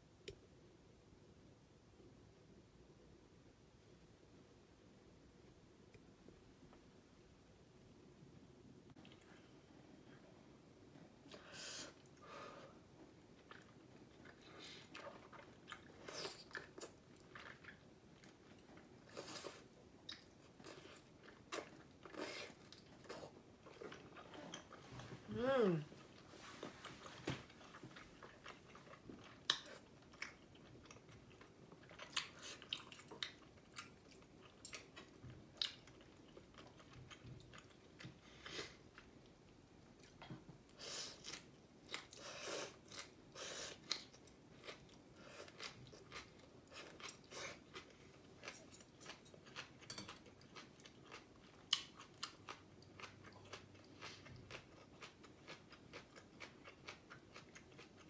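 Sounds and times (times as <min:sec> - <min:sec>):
person chewing noodles: 0:11.2 - 0:58.0.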